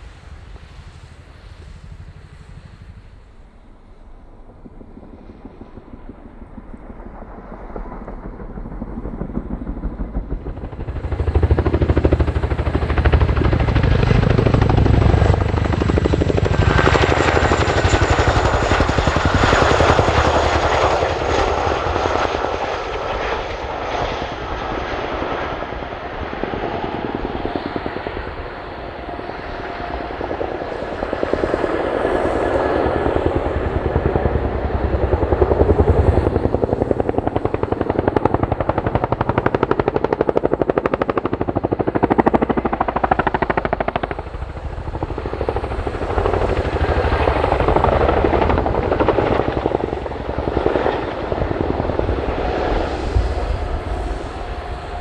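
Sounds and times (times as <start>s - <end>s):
helicopter turbine noise: 0.0s - 55.0s
helicopter rotors thumping: 9.0s - 55.0s.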